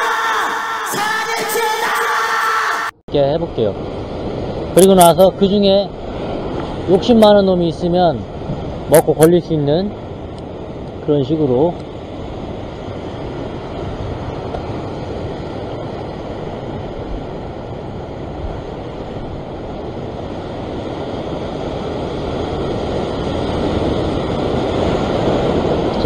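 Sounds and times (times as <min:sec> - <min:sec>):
sea surf breaking on rocks: 0:03.2 - 0:26.0
wind noise on microphone: 0:03.3 - 0:26.0.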